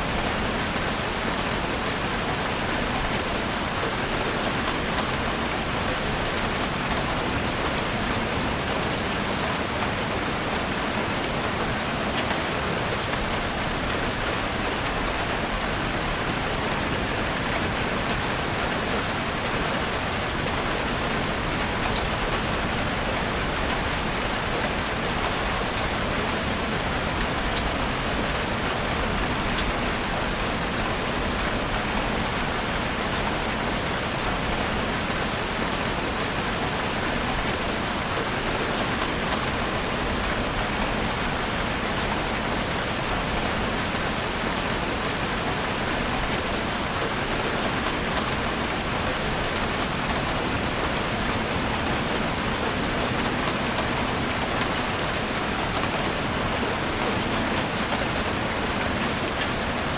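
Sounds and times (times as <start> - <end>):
heavy rain drumming on a roof: 0.0 - 59.9.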